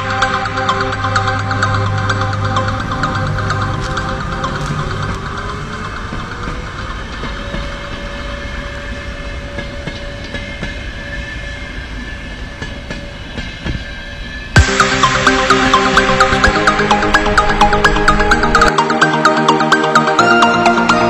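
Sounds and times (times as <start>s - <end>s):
train wheels rumbling on rails: 0.0s - 18.8s
rising train whine: 0.0s - 21.0s.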